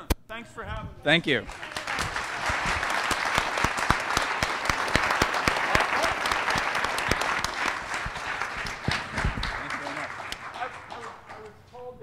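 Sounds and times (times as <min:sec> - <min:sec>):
audience applauding: 0:01.5 - 0:11.7.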